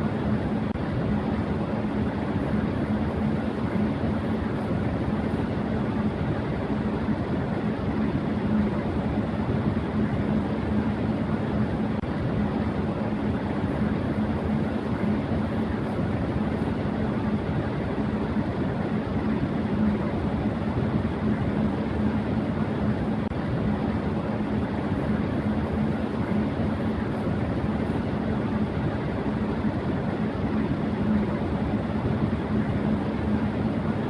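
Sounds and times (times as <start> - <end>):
electric fan running: 0.0 - 34.0.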